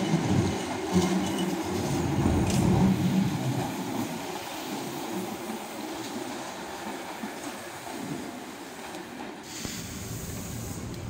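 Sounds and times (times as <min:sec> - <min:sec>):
tram wheels and motors rumbling: 0:00.0 - 0:11.0.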